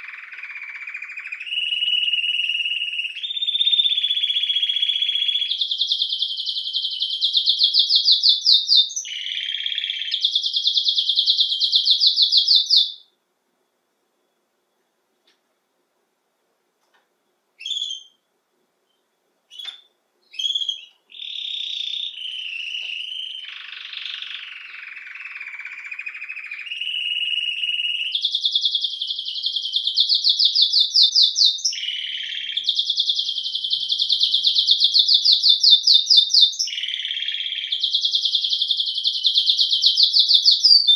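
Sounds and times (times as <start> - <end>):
canary singing trills: 0.0 - 13.2, 17.6 - 18.2, 18.9 - 40.9.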